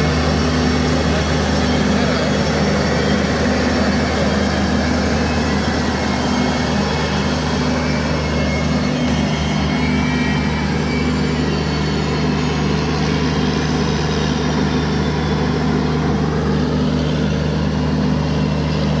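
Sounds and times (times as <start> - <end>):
locomotive engine droning: 0.0 - 19.0.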